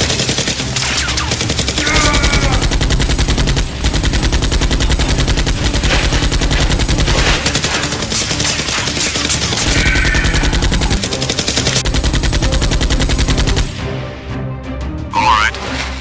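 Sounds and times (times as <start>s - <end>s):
rapid automatic gunfire: 0.0s - 13.8s.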